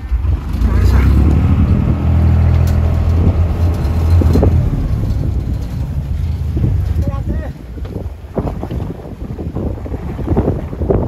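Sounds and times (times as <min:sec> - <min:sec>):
boat engine humming: 0:00.0 - 0:10.3.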